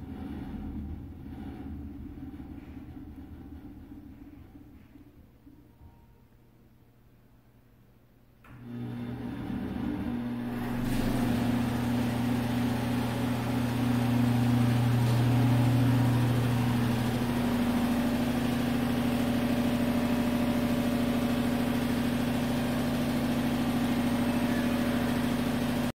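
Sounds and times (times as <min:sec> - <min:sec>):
rattly exhaust fan humming: 0:00.0 - 0:05.9, 0:08.4 - 0:25.9.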